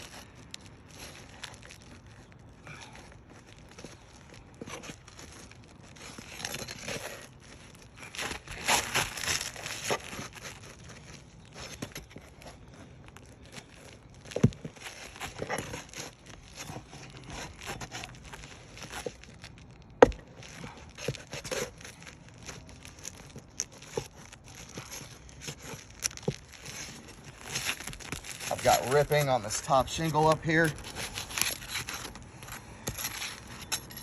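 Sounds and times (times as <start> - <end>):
roof shingle being torn up: 0.0 - 34.0.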